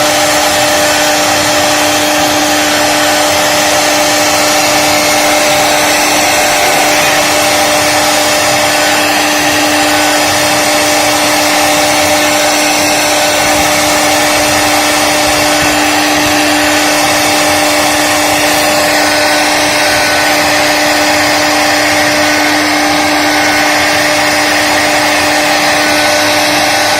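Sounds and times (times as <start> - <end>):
router spindle whining: 0.0 - 26.9.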